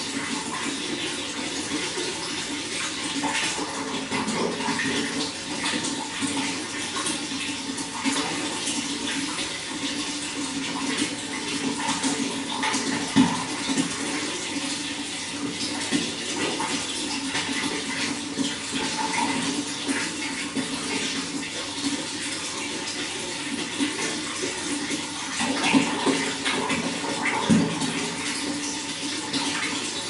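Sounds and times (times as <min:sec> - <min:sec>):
running water splashing: 0:00.0 - 0:30.0.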